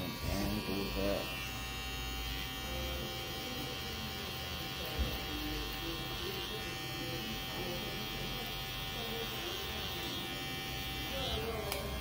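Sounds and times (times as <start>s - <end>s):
hair trimmer buzzing: 0.0s - 12.0s.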